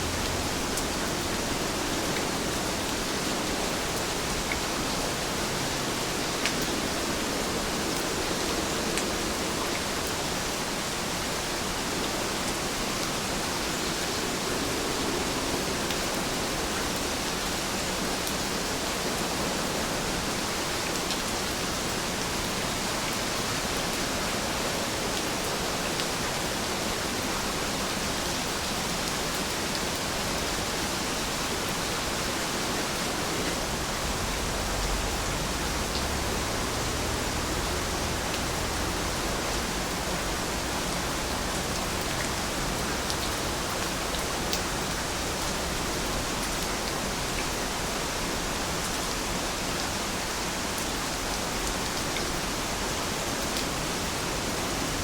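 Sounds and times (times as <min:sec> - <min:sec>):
rainfall hiss: 0:00.0 - 0:55.0.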